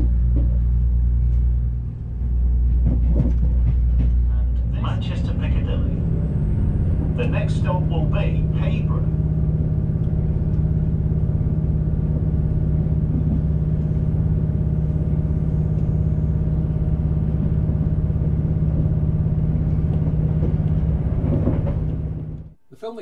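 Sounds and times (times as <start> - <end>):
train engine drone: 0.0 - 23.0.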